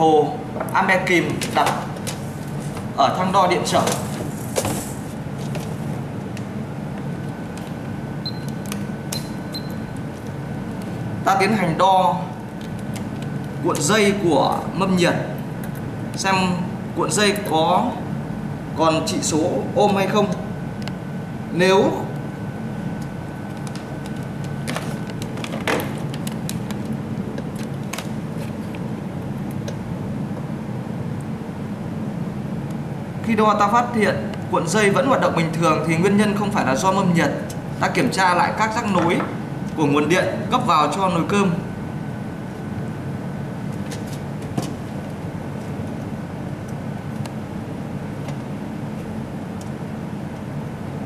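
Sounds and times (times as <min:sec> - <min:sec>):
steady low background hum: 0:00.0 - 0:51.0.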